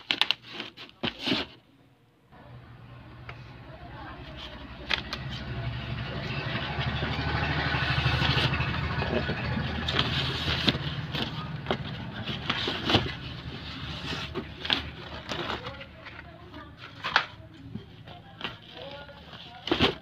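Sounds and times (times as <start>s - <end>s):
cardboard and bubble wrap rustling: 0.0s - 1.6s, 4.0s - 5.6s, 6.2s - 20.0s.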